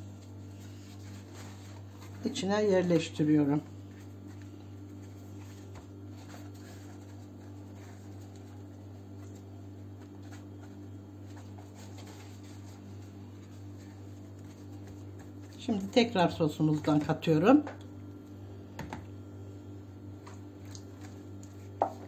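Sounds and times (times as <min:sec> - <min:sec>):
dough sheets rustling and crinkling: 0:00.0 - 0:18.3, 0:19.2 - 0:22.0
steady low hum: 0:00.0 - 0:22.0.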